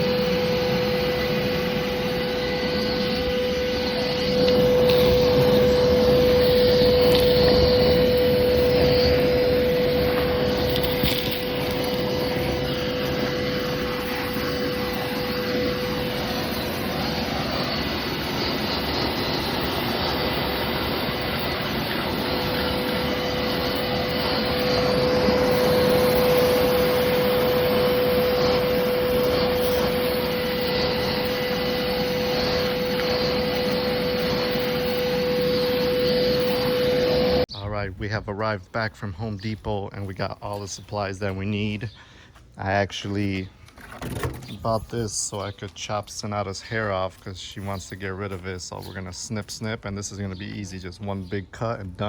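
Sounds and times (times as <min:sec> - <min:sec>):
shop vac whining: 0:00.0 - 0:52.0.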